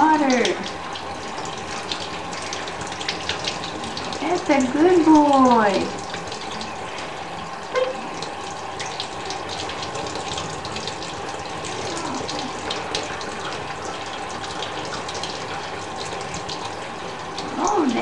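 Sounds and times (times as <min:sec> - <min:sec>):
water running in a thin stream: 0:00.0 - 0:18.0.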